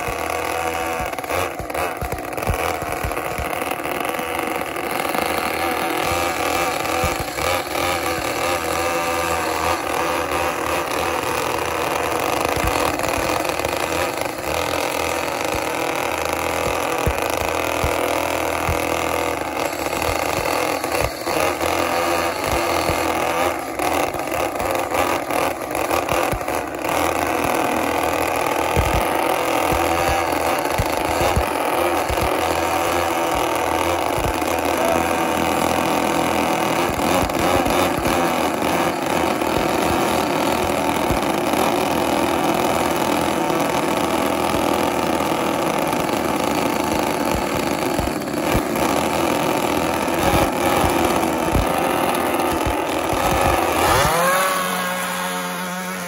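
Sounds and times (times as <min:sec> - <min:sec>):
small two-stroke engines buzzing: 0:00.0 - 0:56.0.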